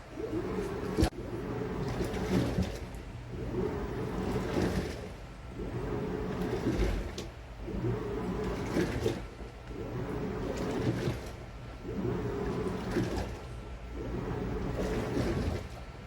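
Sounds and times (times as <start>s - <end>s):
washing machine churning water: 0.0s - 16.0s.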